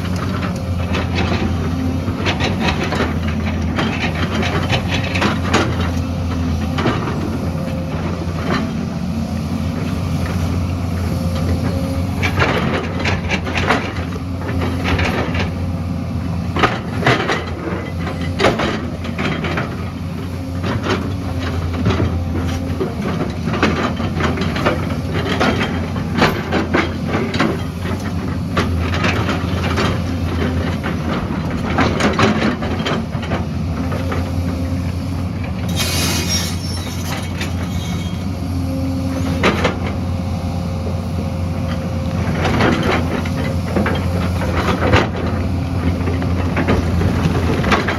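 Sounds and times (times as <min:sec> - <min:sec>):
heavy machine engine running: 0:00.0 - 0:47.9.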